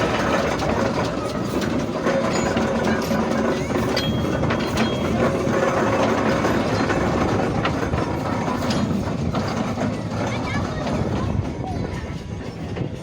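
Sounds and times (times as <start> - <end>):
steam engine mechanical clatter: 0.0 - 13.0.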